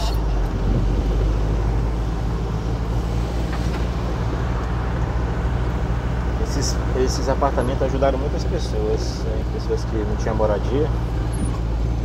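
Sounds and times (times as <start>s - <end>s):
diesel engine running: 0.0s - 12.0s
road and tyre noise: 0.0s - 12.0s.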